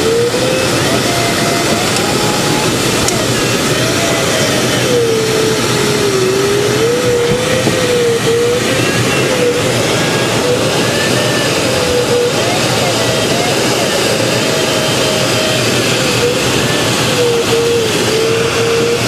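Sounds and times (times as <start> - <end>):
rush of airflow: 0.0 - 19.0
wavering electronic tone: 0.0 - 19.0.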